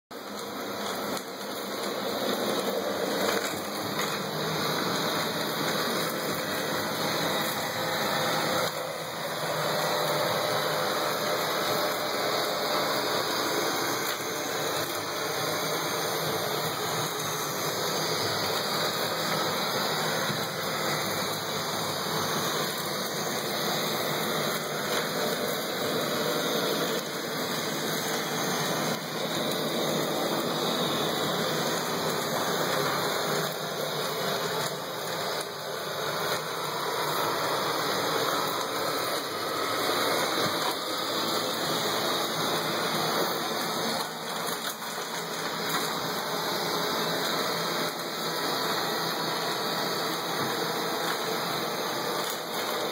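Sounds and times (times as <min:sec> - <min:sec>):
robot vacuum whirring: 0:00.2 - 0:52.9.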